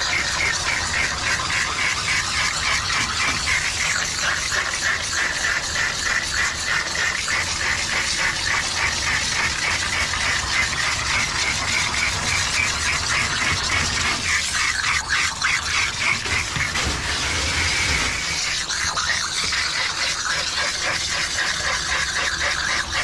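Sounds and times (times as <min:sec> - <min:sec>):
hose spraying water: 0:00.0 - 0:23.0.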